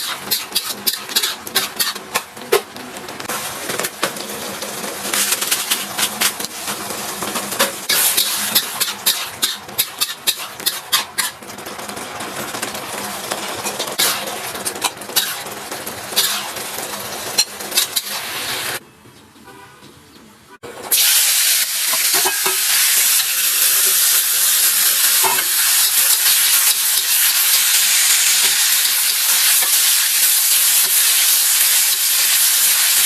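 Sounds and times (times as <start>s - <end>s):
food sizzling in a pan: 0.0s - 2.3s, 3.3s - 11.4s, 12.9s - 18.8s, 20.9s - 33.0s
metal spatula scraping a pan: 0.0s - 18.8s, 25.0s - 32.9s.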